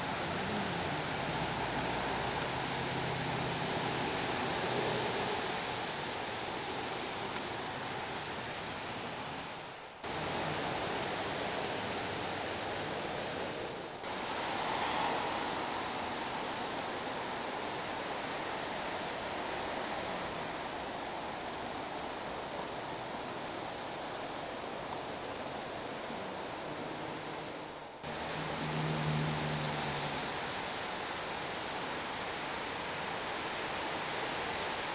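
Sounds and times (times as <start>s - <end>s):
steady rushing hiss: 0.0s - 34.9s.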